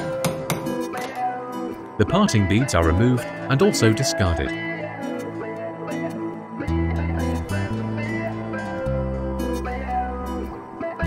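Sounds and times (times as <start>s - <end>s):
plucked guitar background music: 0.0s - 11.0s.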